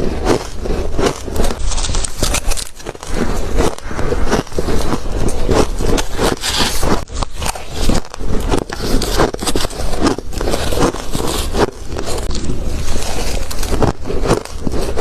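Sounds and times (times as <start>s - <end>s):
crunching shaved ice: 0.0s - 15.0s.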